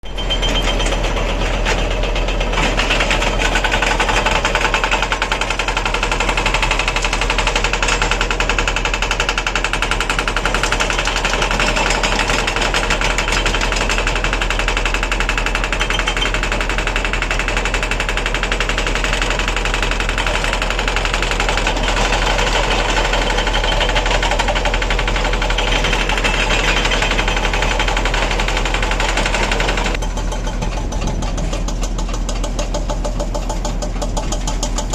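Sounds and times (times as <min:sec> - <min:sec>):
heavy machinery engine running: 0:00.0 - 0:34.9.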